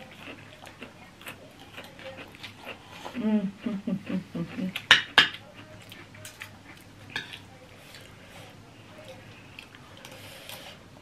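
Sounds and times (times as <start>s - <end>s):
quiet eating noises: 0.0s - 11.0s.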